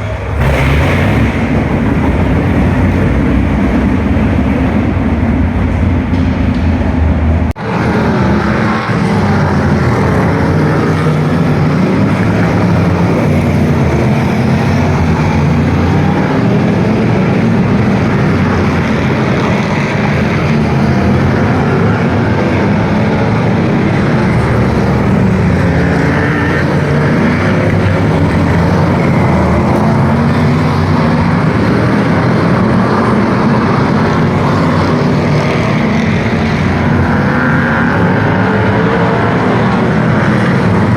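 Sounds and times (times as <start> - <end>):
vehicle engines running loudly: 0.0 - 40.9.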